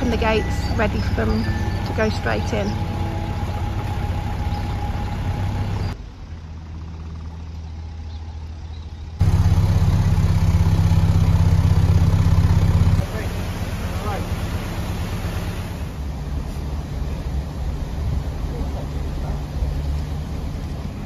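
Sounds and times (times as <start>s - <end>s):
diesel engine throbbing: 0.0s - 21.0s.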